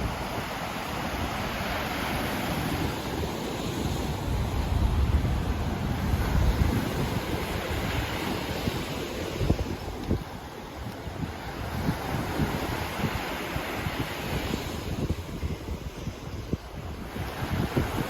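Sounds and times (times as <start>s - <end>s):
sea waves breaking on shore: 0.0s - 18.0s
wind rumble on microphone: 0.0s - 18.0s.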